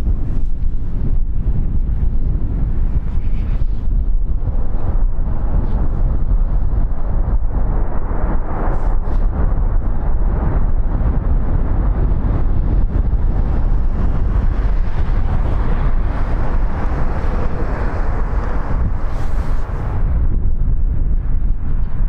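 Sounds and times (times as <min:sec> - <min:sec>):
wind buffeting microphone: 0:00.0 - 0:22.0
jet engines rumbling: 0:02.6 - 0:20.4.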